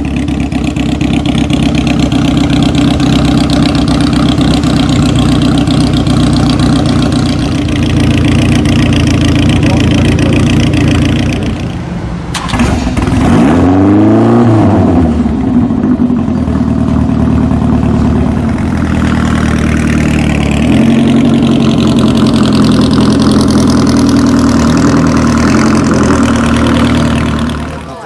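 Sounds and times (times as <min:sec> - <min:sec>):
car engine revving and running: 0:00.0 - 0:28.0.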